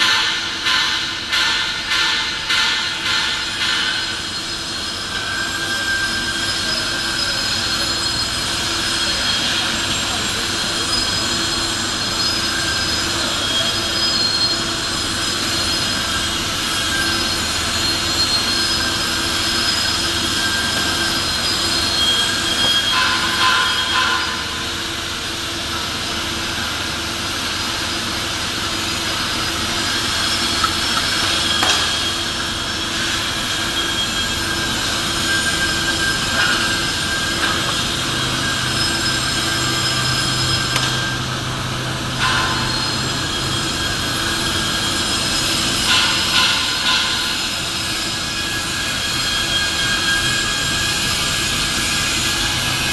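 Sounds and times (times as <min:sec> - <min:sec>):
machinery hum: 0:00.0 - 0:52.9
machinery whines: 0:00.0 - 0:52.9.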